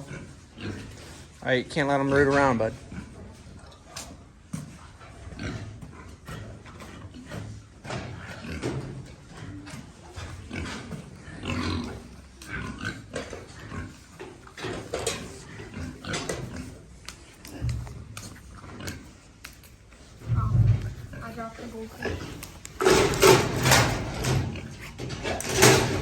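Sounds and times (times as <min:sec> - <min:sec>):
pigs grunting and snuffling: 0:00.0 - 0:26.0.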